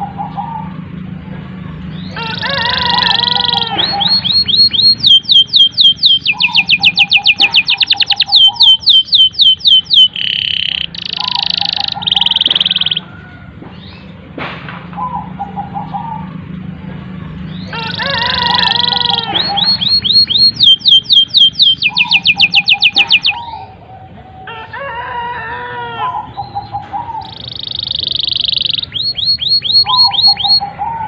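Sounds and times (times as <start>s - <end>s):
canary singing: 0.0s - 14.3s, 15.0s - 31.0s.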